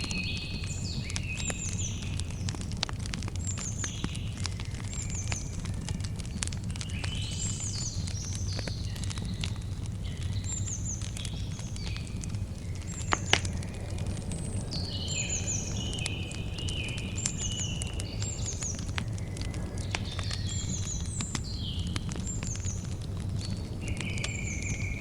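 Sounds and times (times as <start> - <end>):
campfire crackling and popping: 0.0 - 25.0
birds chirping and whistling: 3.4 - 25.0.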